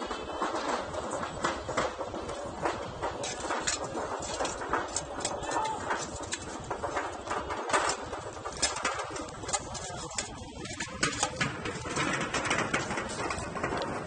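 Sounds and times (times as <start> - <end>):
cardboard rustling and tapping: 0.0 - 14.0.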